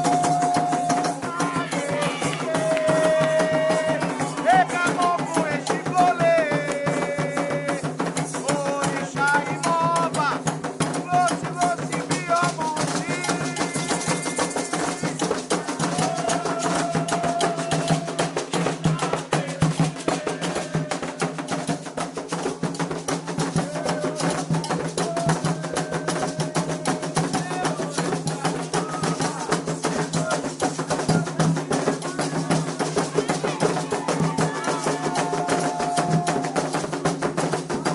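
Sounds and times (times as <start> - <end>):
voices chanting: 0.0 - 21.7, 23.4 - 37.9
fast hand drumming: 0.0 - 37.9.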